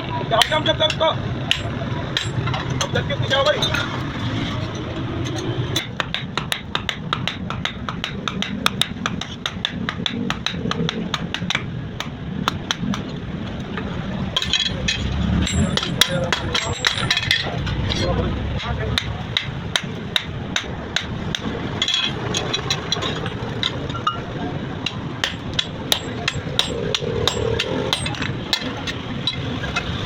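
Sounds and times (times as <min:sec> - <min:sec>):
hammer striking steel: 0:00.4 - 0:03.0, 0:05.8 - 0:13.1, 0:14.4 - 0:29.9.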